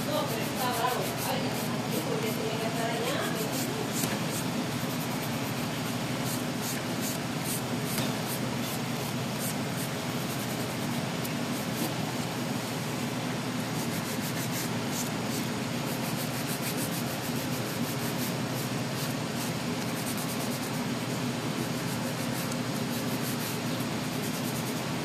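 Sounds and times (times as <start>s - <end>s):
nail file rubbing on nails: 0.0s - 8.8s, 9.4s - 12.0s, 13.7s - 21.0s, 21.6s - 24.9s.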